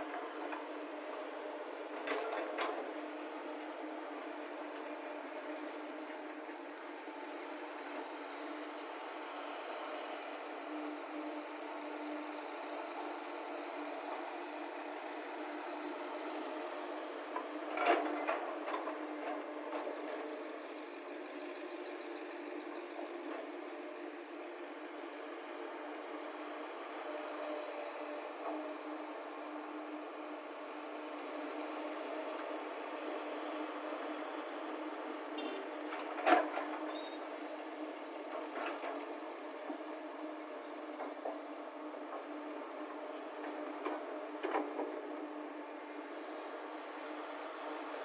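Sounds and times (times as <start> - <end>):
excavator diesel engines running: 0.0 - 48.0.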